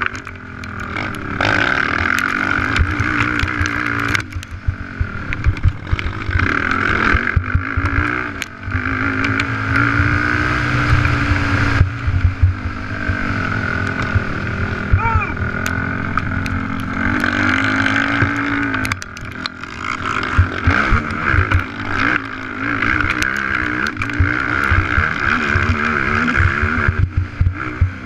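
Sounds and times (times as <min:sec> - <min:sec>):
atv engine revving: 0:00.0 - 0:28.0
quad clattering over dirt: 0:00.0 - 0:28.0
rushing wind: 0:00.0 - 0:28.0.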